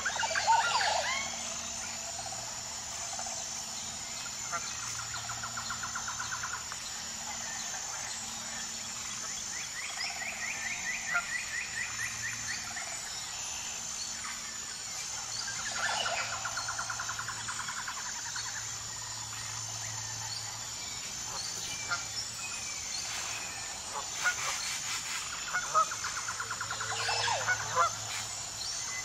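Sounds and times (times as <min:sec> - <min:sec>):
steady high-pitched whine: 0:00.0 - 0:29.0.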